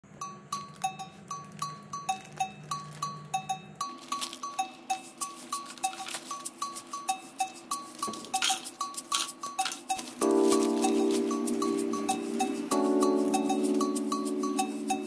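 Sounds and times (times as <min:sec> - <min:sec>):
bouncy melody of ringing notes: 0:00.1 - 0:15.0.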